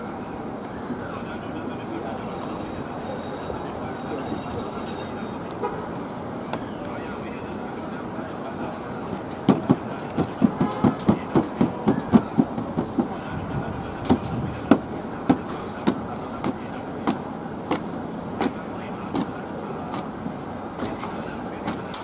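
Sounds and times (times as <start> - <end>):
street traffic noise: 0.0 - 22.0.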